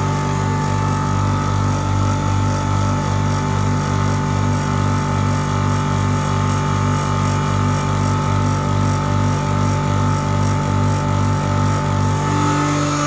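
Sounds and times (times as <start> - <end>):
grinder motor humming and whining: 0.0 - 13.0.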